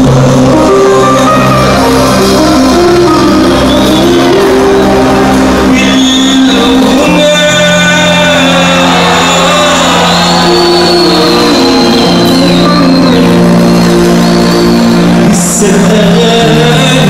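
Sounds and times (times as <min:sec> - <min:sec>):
live band playing loud: 0:00.0 - 0:17.0.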